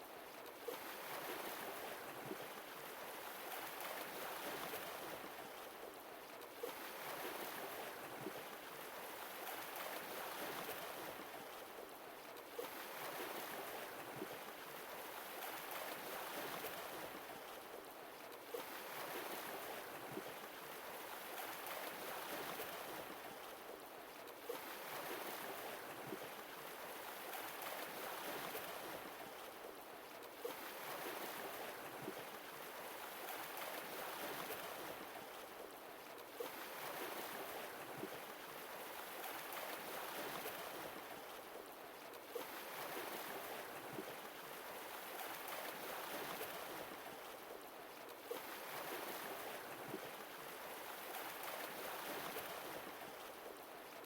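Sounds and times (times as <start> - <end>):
small water splashes: 0.3 - 54.0.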